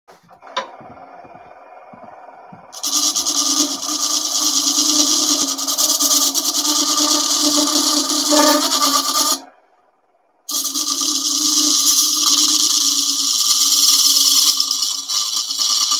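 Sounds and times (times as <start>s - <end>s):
lathe running quietly: 0.1s - 15.9s
gouge cutting spinning wood: 0.5s - 9.5s, 10.5s - 15.9s.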